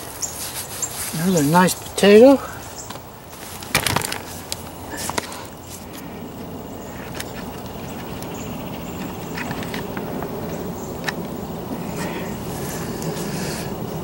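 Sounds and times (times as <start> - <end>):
rustling and scraping of dirt: 0.0 - 14.0.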